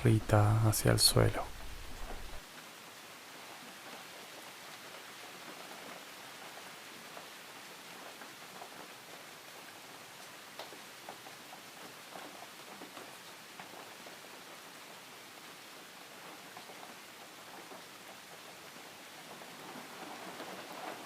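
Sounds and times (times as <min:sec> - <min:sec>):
steady soft rainfall: 0:00.0 - 0:21.0.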